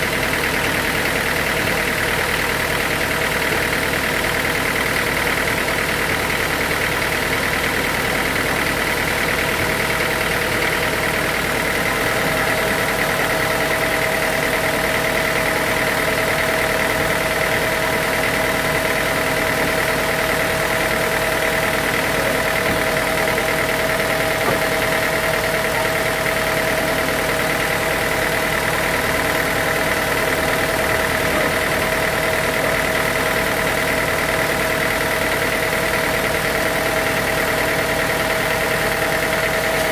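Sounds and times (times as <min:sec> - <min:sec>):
constant machine whine: 0:00.0 - 0:39.9
engine idling: 0:00.0 - 0:39.9
sawmill machinery running: 0:00.0 - 0:39.9.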